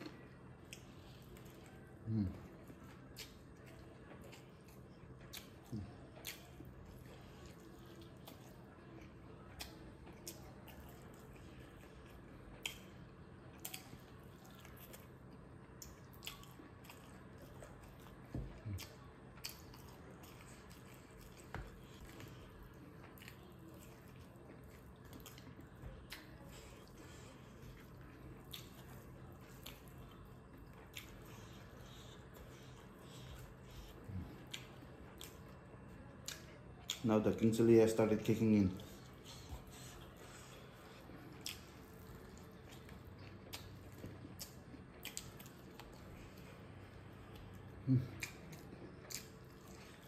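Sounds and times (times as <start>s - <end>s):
close-up chewing: 0.0s - 50.0s
low steady hum: 0.0s - 50.0s.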